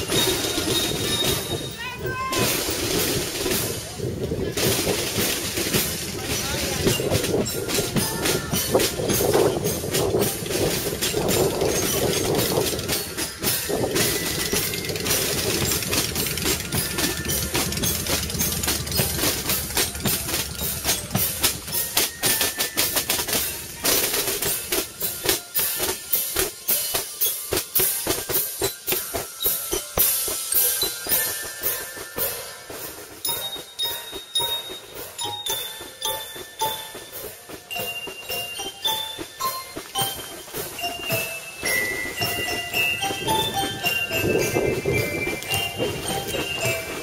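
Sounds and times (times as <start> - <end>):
marching snare and bass drums: 0.0 - 47.0.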